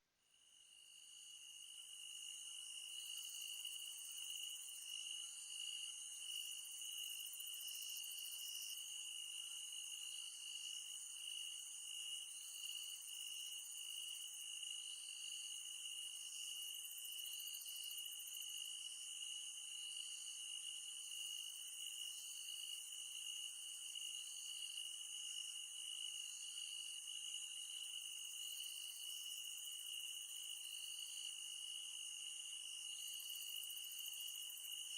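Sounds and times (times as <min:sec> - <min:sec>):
insect chirping: 0:00.3 - 0:34.9.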